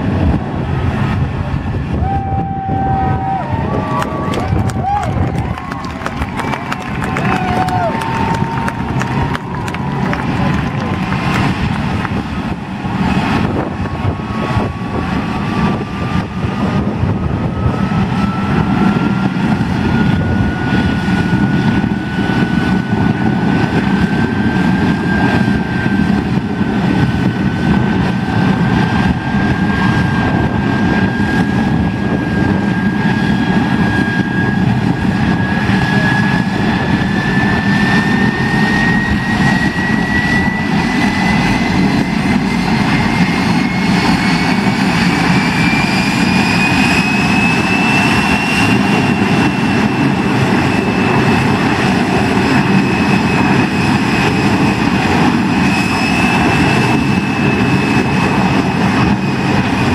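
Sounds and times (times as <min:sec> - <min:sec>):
jet engine roaring: 0:00.0 - 0:59.9
turbine whine rising: 0:00.0 - 0:59.9.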